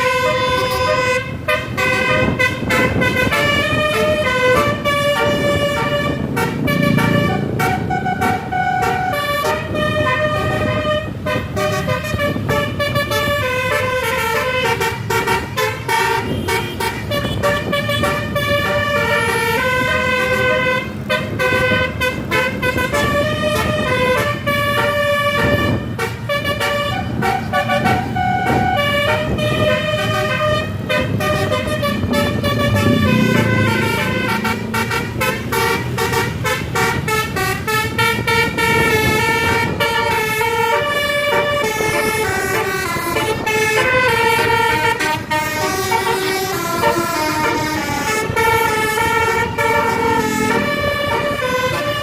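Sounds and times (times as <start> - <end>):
low rumble of bus and road: 0.0 - 52.0
multi-tone bus horn melody: 0.0 - 52.0.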